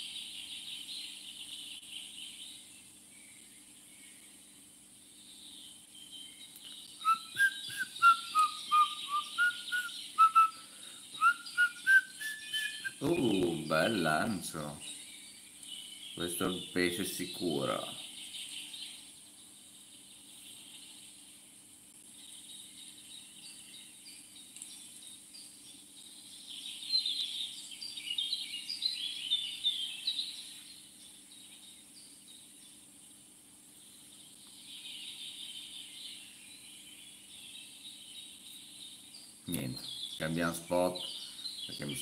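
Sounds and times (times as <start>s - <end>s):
high insect drone: 0.0s - 42.0s
wild birds chirping: 0.0s - 42.0s.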